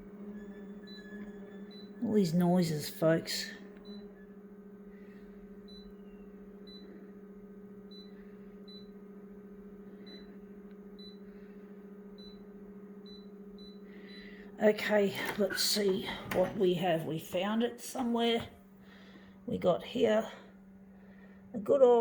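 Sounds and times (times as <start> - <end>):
photocopier humming: 0.0 - 21.5.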